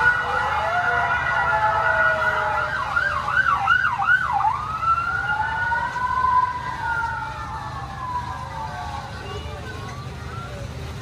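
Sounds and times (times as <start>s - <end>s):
electronic fire truck sirens: 0.0s - 9.2s.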